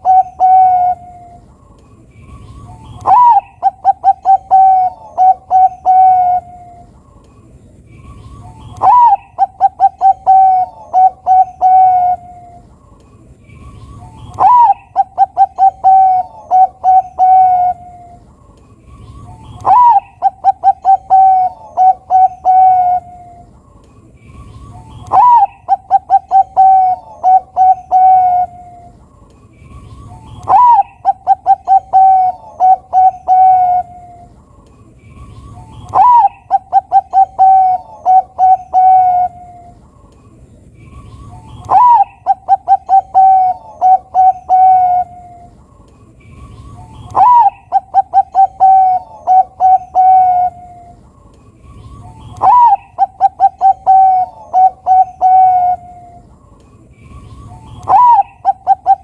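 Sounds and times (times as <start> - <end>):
dove cooing song: 0.0 - 7.2, 8.0 - 12.9, 13.5 - 40.0, 40.8 - 59.0.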